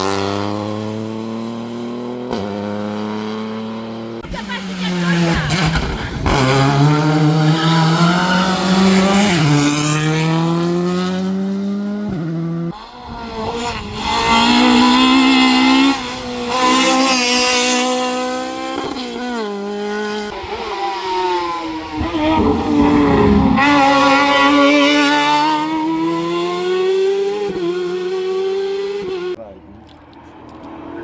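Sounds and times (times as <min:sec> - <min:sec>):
racing car engine revving: 0:00.0 - 0:29.4.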